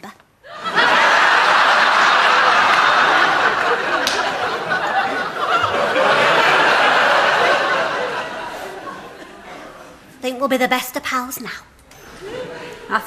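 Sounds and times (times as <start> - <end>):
audience laughing loudly: 0.4 - 10.0, 12.0 - 13.0.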